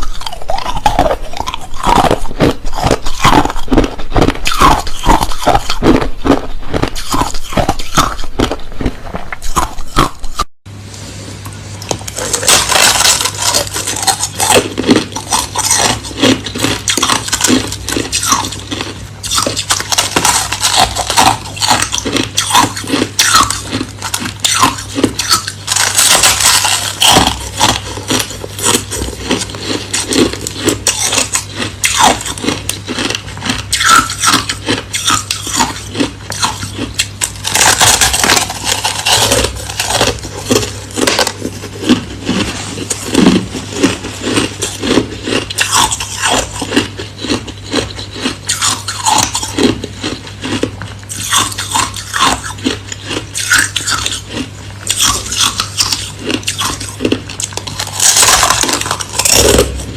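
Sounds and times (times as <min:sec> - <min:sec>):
ice being chewed: 0:00.0 - 0:10.5, 0:11.4 - 0:59.9.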